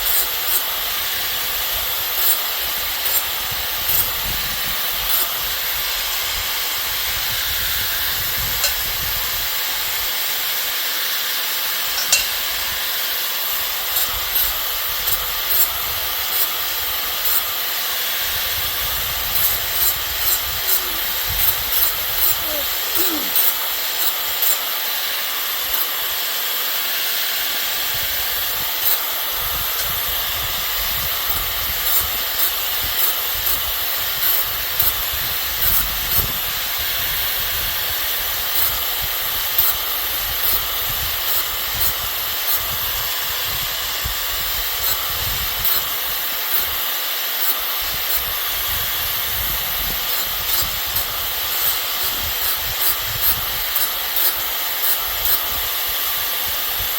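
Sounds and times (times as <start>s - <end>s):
steady hissing noise: 0.0s - 56.9s.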